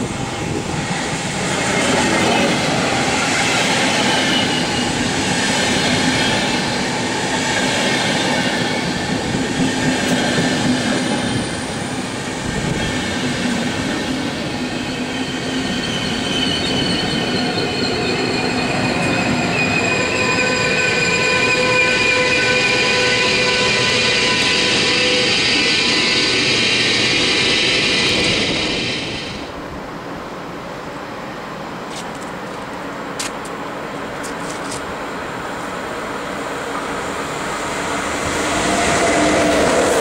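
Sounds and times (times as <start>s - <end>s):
locomotive high whining tones: 0.0s - 29.6s, 36.2s - 40.0s
train wheels rumbling on rail: 0.0s - 30.1s, 31.5s - 40.0s.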